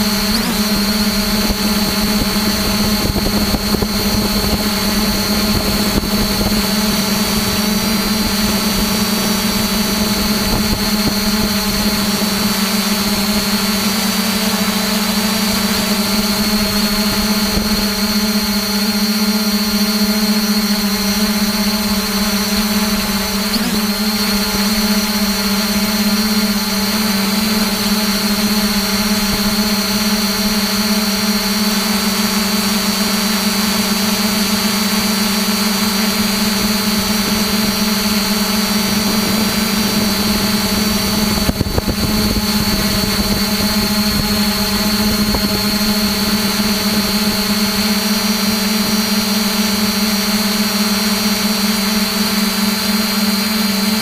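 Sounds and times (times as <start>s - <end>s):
drone motors humming: 0.0s - 54.0s
high whine: 0.0s - 54.0s.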